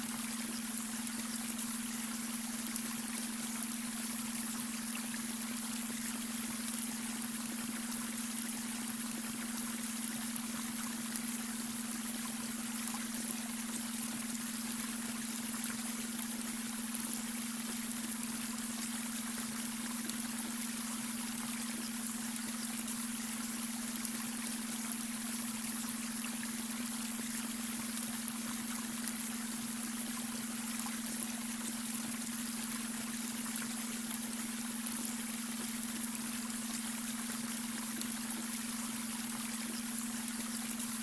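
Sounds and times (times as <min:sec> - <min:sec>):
flowing water: 0:00.0 - 0:41.0.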